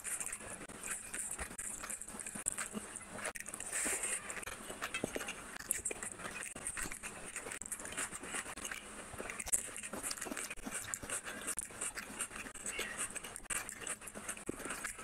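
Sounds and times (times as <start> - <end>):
chewing and mouth smacks: 0.0 - 15.0
fingers squelching rice: 0.0 - 15.0.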